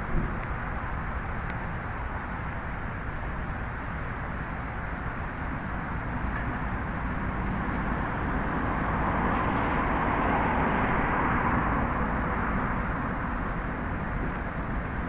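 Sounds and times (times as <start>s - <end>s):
rain: 0.0s - 15.0s
wind: 0.0s - 15.0s.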